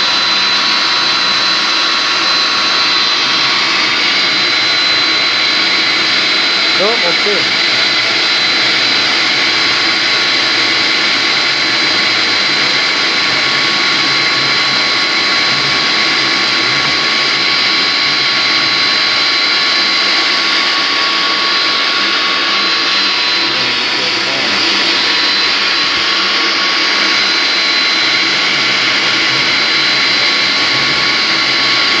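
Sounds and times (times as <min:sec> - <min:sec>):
electric motor whining: 0:00.0 - 0:32.0.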